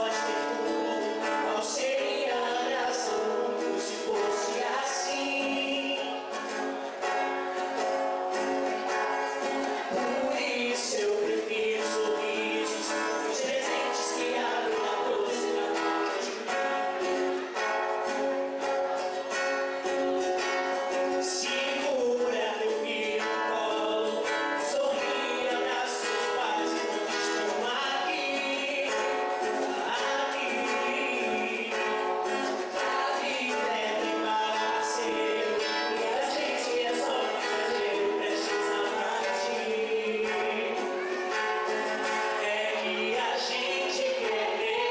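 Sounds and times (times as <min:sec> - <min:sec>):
acoustic guitar playing: 0:00.0 - 0:44.9
person singing through microphone: 0:00.0 - 0:44.9.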